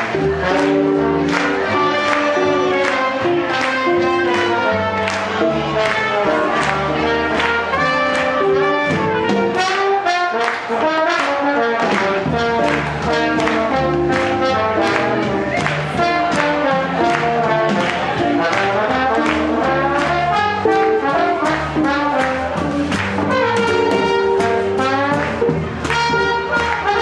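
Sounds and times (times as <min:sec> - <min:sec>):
swing jazz band playing: 0:00.0 - 0:27.0
trombone: 0:00.0 - 0:27.0
trumpet: 0:00.0 - 0:27.0.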